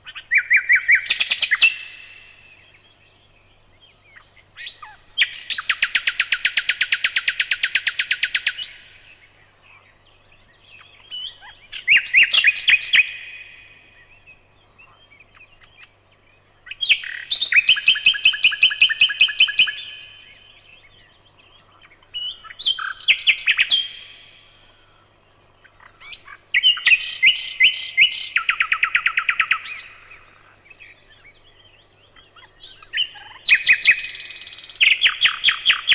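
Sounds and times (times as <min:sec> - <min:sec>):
nightingale singing: 0:00.0 - 0:35.9.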